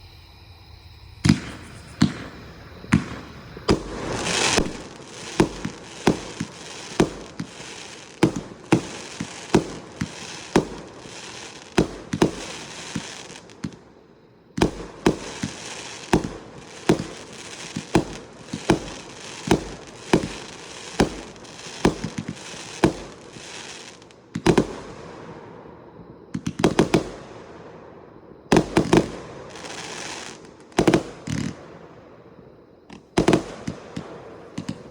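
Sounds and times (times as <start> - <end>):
fireworks bangs and hisses: 1.2 - 14.0, 14.6 - 34.9.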